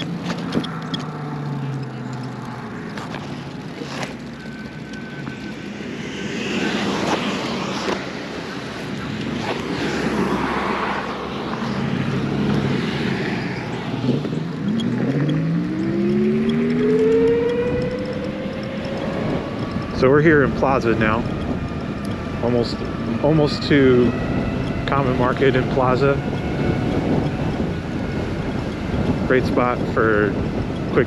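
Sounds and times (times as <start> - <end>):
electric moped motor whine: 0.0 - 31.0
wind and road noise: 0.0 - 31.0.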